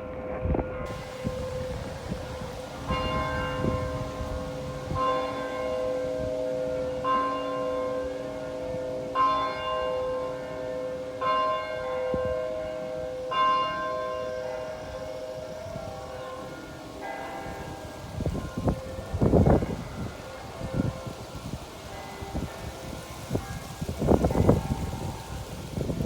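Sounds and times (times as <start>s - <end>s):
church bell tolling: 0.8s - 26.0s.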